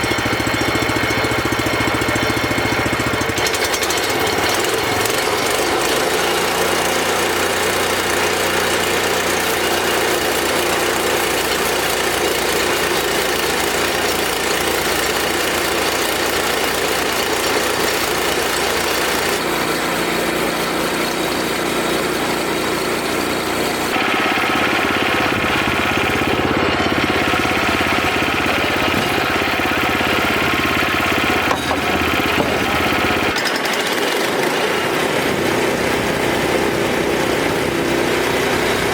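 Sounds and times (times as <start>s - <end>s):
band sawmill cutting log: 0.0s - 38.9s.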